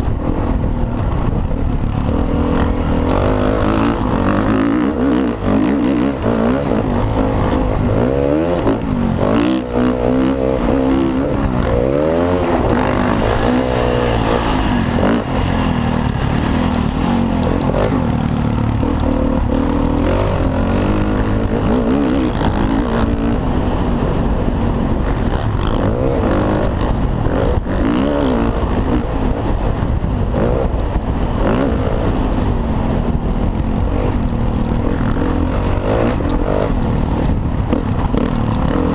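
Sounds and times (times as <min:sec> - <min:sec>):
constant low rumble: 0:00.0 - 0:38.9
dirt bike engines revving: 0:00.0 - 0:38.9.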